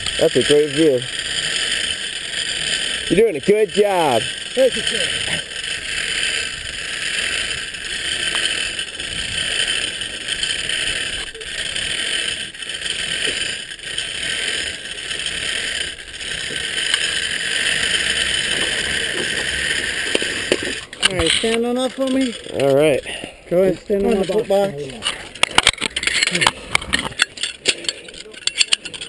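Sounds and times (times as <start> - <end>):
pulleys whirring on steel cable: 0.0 - 29.0.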